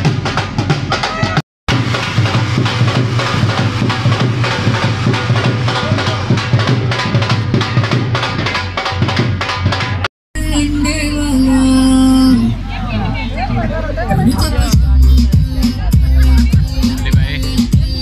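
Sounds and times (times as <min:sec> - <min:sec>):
drums beating fast rhythm: 0:00.0 - 0:10.8, 0:13.0 - 0:18.0.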